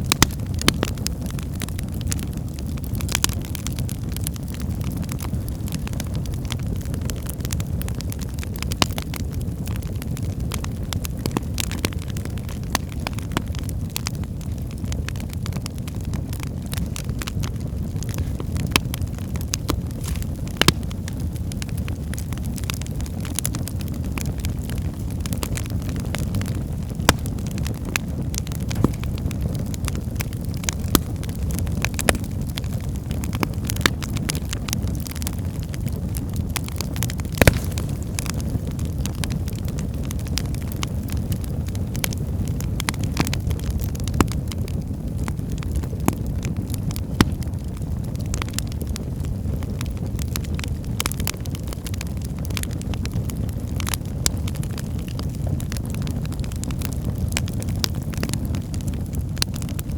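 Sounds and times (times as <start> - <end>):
firewood crackling and popping: 0.0 - 59.9
low rumble of flames: 0.0 - 59.9.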